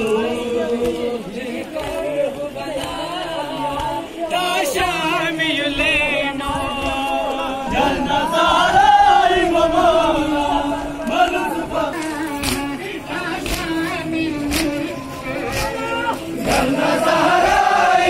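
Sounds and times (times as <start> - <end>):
crowd of men chanting: 0.0 - 18.0.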